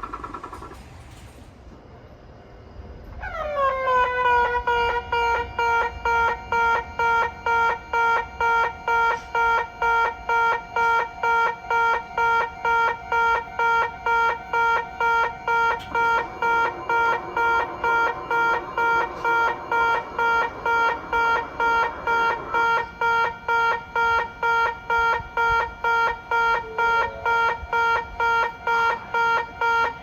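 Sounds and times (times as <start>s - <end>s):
level crossing warning bell: 4.1s - 30.0s.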